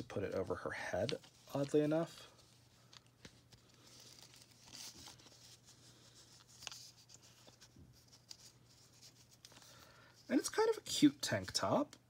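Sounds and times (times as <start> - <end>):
fabric rustling on plastic doll: 0.0 - 11.8.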